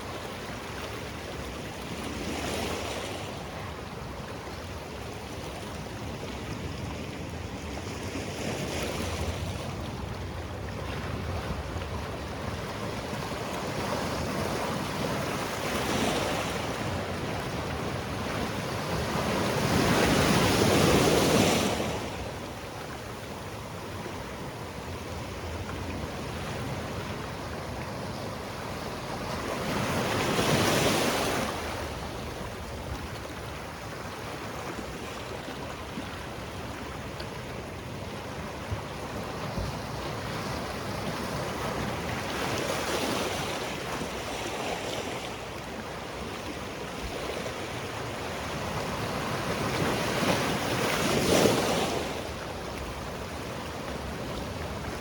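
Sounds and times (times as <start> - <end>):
waves breaking on rocky shore: 0.0 - 55.0.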